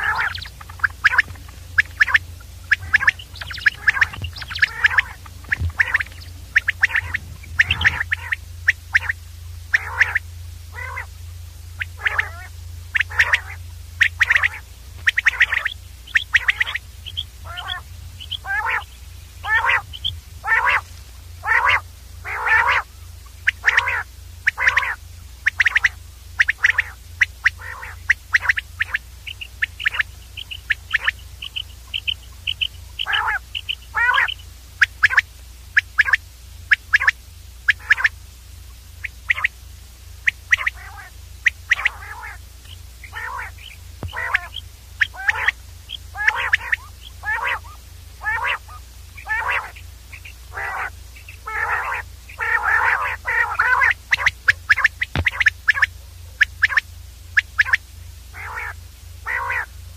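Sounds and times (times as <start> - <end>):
quail calling: 0.0 - 39.6, 40.2 - 59.8
steady low hum: 0.0 - 59.9.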